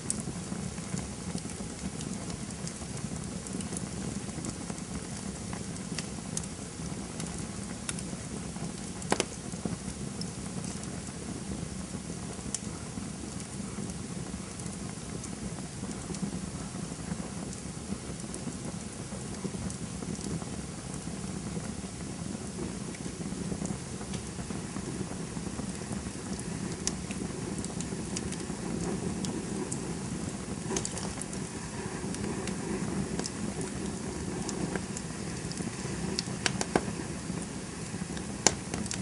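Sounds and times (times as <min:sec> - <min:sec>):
campfire hissing and crackling: 0:00.0 - 0:39.0
loud pop of fire: 0:00.0 - 0:39.0.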